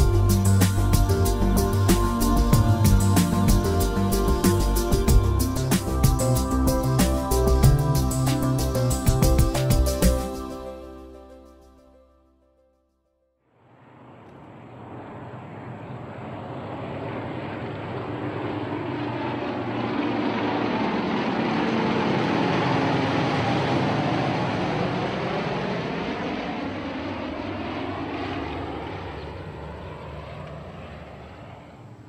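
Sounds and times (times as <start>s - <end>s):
propeller aircraft flying past: 0.0s - 11.4s, 13.5s - 32.0s.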